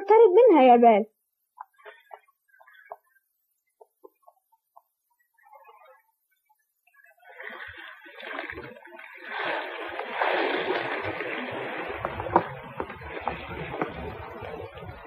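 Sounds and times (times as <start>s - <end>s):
seawater splashing: 1.6s - 15.0s.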